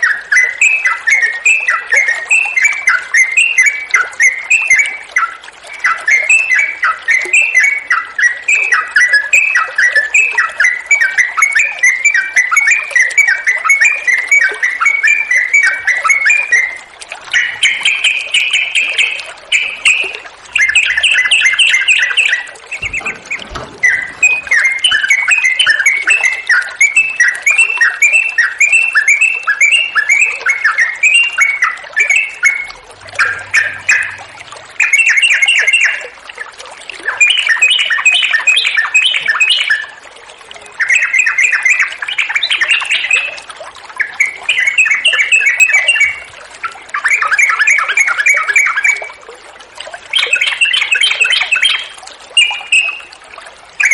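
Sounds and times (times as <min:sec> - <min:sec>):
bulbul singing: 0:00.0 - 0:36.2, 0:37.0 - 0:46.3, 0:50.1 - 0:53.2.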